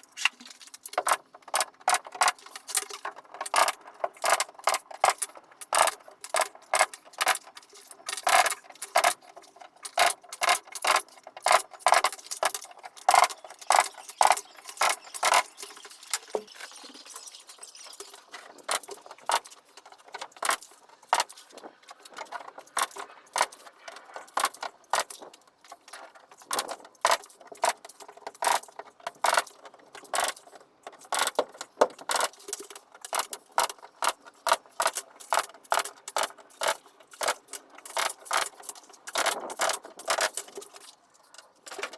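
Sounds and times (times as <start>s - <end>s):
carpentry clicks and knocks: 0.0s - 16.7s, 18.0s - 41.9s.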